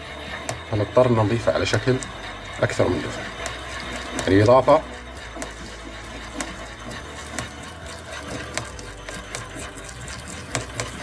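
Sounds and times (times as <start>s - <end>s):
glass pestle scraping in mortar: 0.0s - 11.0s.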